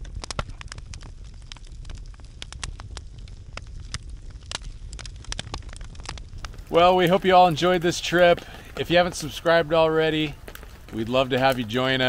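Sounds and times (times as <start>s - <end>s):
low steady rumble: 0.0s - 11.4s
campfire crackling and popping: 0.0s - 12.0s.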